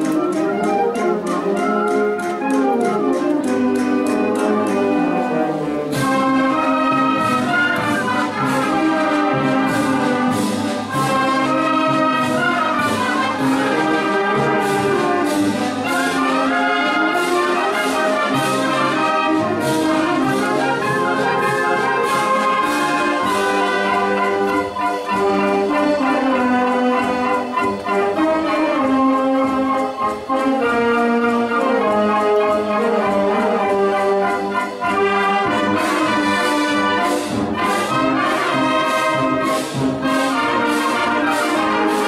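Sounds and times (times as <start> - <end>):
march beat: 0.0 - 42.0
trumpets and trombones melody: 0.0 - 42.0.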